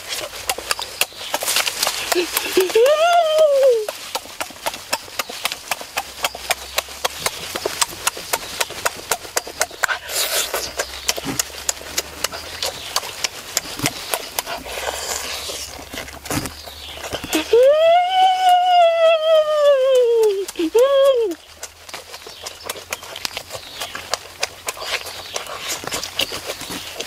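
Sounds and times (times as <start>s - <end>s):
biting or sucking rush: 0.0s - 18.7s, 19.4s - 27.0s
man chewing noisily: 0.0s - 27.0s.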